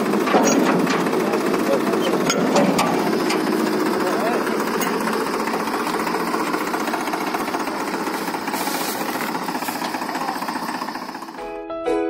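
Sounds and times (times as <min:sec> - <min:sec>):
tractor diesel engine running: 0:00.0 - 0:11.6.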